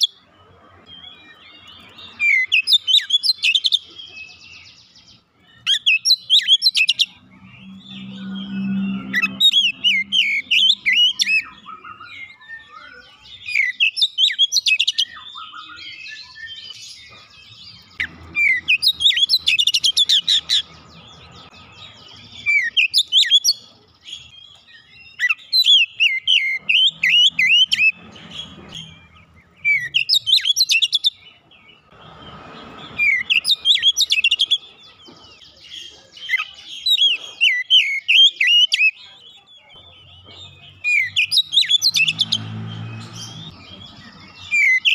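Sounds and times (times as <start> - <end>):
bird singing whistles and chatter: 0.0 - 44.9.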